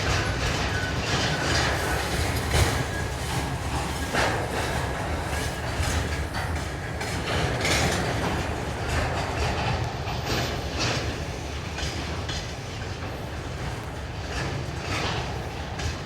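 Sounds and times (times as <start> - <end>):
freight train rumble: 0.0 - 16.0
train wheels clattering over rail joints: 0.0 - 16.0.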